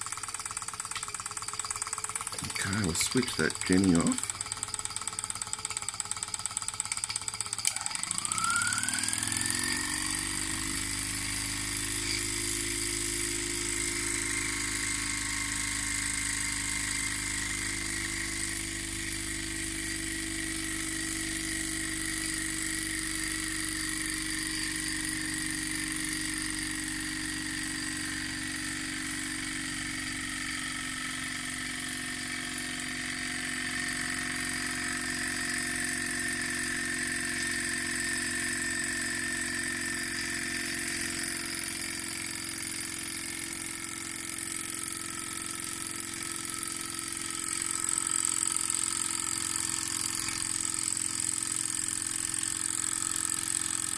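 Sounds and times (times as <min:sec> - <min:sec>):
model steam engine running: 0:00.0 - 0:53.9.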